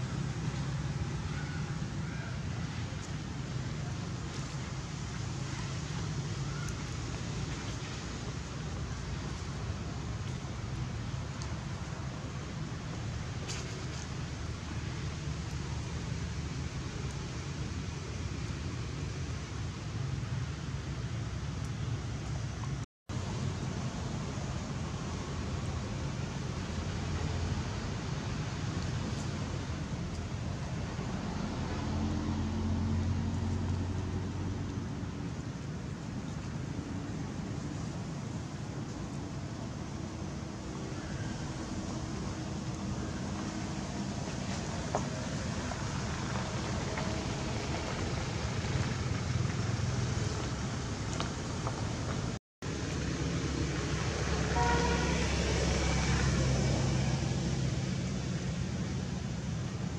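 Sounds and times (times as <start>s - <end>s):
distant road traffic rumble: 0.0s - 59.9s
outdoor background hiss: 0.0s - 59.9s
vehicle engine hum: 0.0s - 59.9s.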